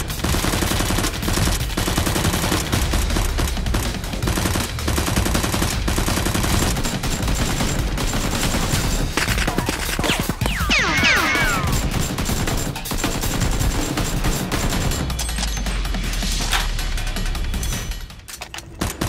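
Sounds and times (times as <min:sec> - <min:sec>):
rapid automatic gunfire: 0:00.0 - 0:15.4.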